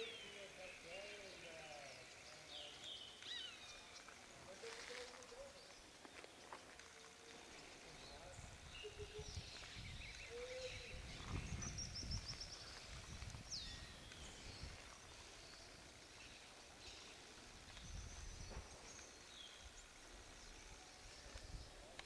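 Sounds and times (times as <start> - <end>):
bird calls: 0.0 - 22.0.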